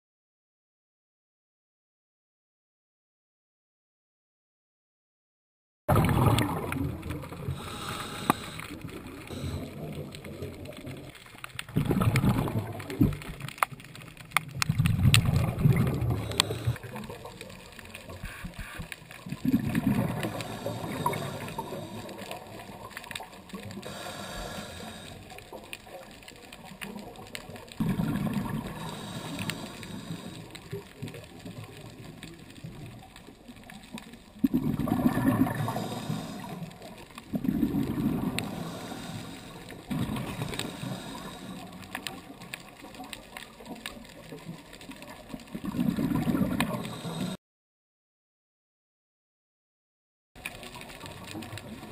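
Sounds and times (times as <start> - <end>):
faint clicks and crackling: 5.9 - 47.4, 50.4 - 51.9
underwater exhaled bubbles rumbling: 5.9 - 47.4, 50.5 - 51.9.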